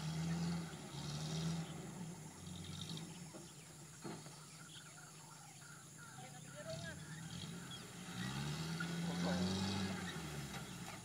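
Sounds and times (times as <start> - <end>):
distant truck engine revving: 0.0 - 4.8, 6.5 - 11.0.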